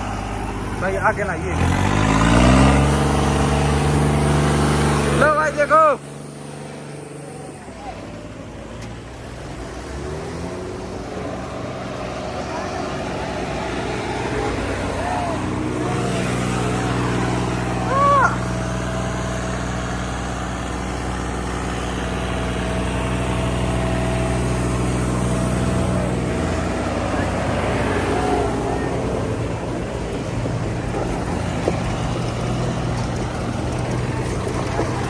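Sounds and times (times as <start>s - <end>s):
tractor engines running: 0.0s - 35.0s.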